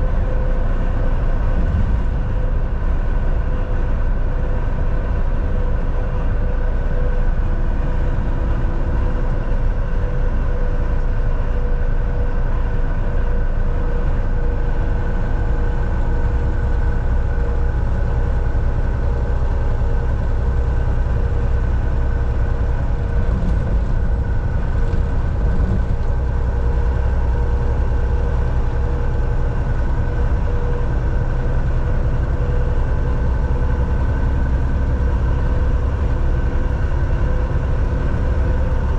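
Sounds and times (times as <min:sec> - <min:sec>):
diesel engine drone: 0:00.0 - 0:38.9
road rumble: 0:00.0 - 0:38.9.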